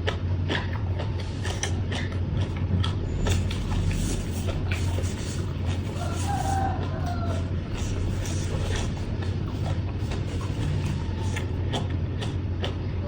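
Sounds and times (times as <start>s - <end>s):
chewing and crunching food: 0.0s - 13.0s
steady low hum: 0.0s - 13.0s.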